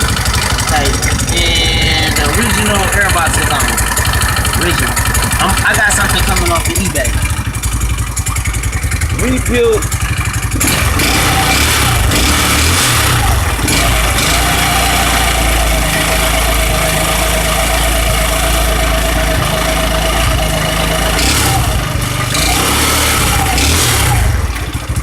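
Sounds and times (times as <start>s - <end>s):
scooter engine idling: 0.0s - 25.0s
thin steady whine: 0.0s - 25.0s.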